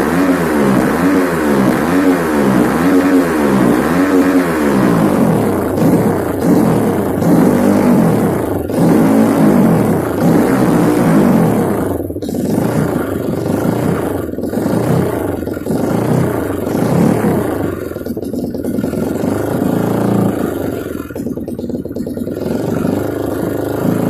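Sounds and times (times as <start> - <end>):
trail-bike engine revving: 0.0 - 24.0.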